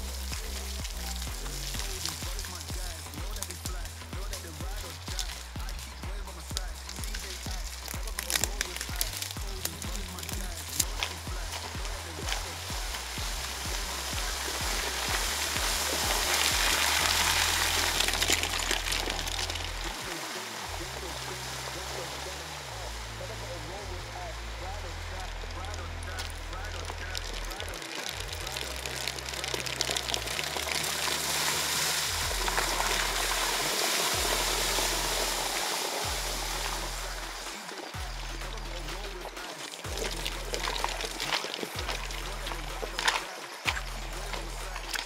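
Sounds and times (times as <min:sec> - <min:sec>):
background music with steady beat: 0:00.0 - 0:45.0
water splashing from bike tyres: 0:00.0 - 0:45.0.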